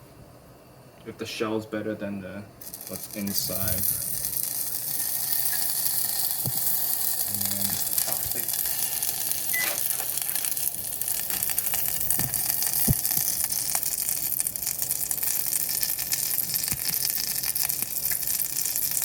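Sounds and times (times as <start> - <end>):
food sizzling in butter: 2.6 - 19.0.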